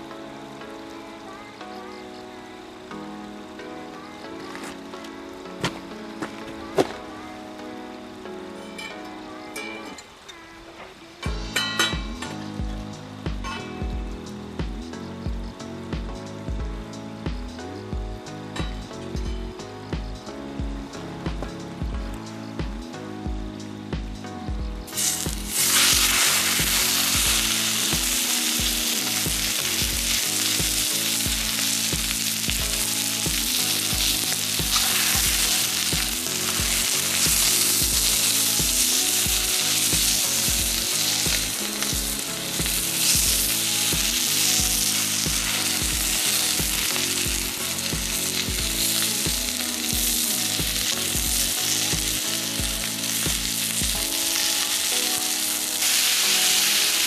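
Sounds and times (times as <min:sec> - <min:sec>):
food sizzling in a pan: 0:00.0 - 0:57.0
background music with low beat: 0:02.9 - 0:09.1, 0:11.2 - 0:56.9.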